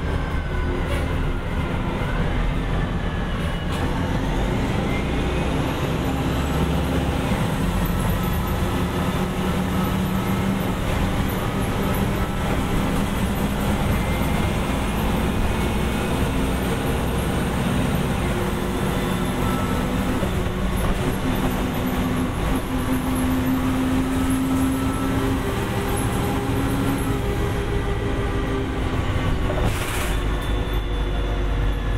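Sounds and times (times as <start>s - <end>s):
bus diesel engine running: 0.0s - 31.9s
road and drivetrain noise: 0.0s - 31.9s.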